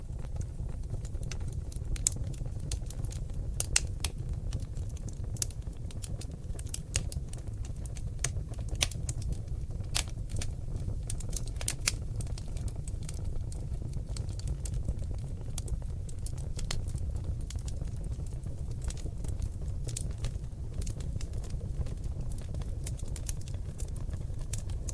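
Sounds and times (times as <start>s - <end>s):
fire crackling and popping: 0.0s - 24.9s
low rumble of flames: 0.0s - 24.9s.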